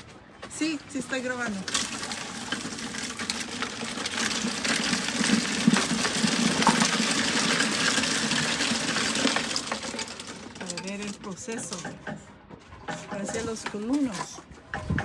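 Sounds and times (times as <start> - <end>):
rattling churning noise: 0.0 - 15.0.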